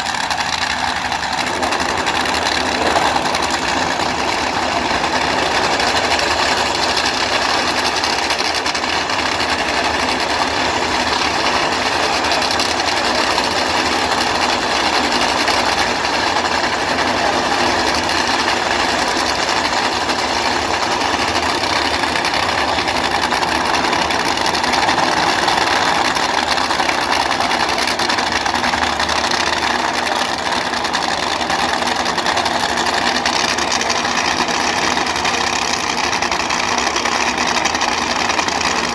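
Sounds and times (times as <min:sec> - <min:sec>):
race car engines idling: 0:00.0 - 0:38.9.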